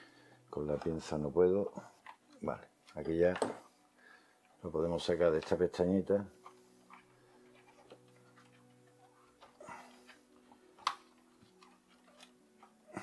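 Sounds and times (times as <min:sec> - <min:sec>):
plastic parts clicking and scraping: 0:00.6 - 0:03.7, 0:04.4 - 0:13.0.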